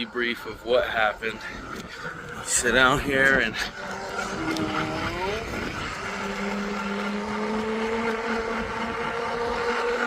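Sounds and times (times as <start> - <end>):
electric hub motor whining: 0.0 - 10.0
wind and rolling noise: 0.0 - 10.0.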